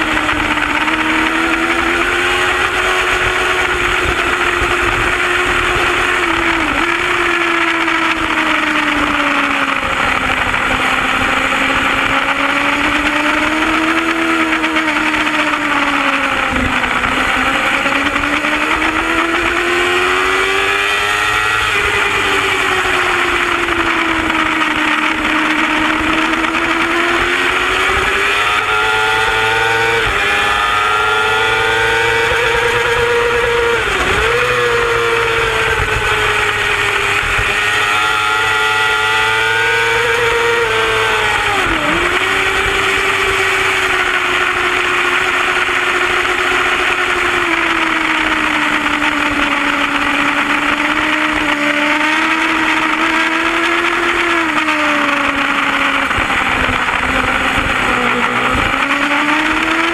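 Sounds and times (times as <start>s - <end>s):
motorcycle engine at high revs: 0.0s - 59.9s
wind rush on microphone: 0.0s - 59.9s.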